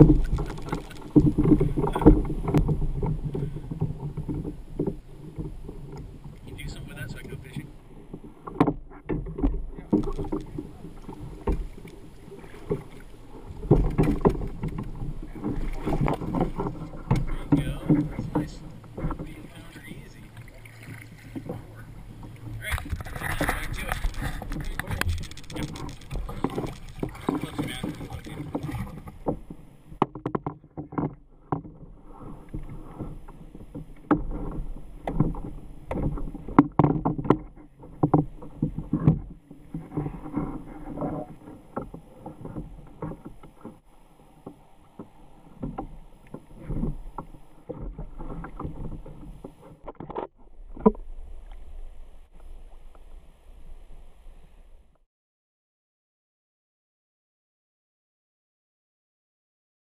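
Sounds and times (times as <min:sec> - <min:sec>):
knocks and clunks on board: 0:00.0 - 0:43.8, 0:44.4 - 0:51.0
water splashing against plastic hull: 0:00.0 - 0:55.0.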